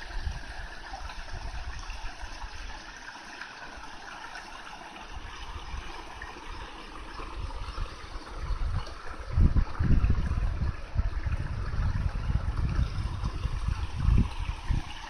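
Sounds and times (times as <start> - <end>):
wind buffeting microphone: 0.0 - 2.7, 5.1 - 15.0
stream babbling over stones: 0.0 - 15.0.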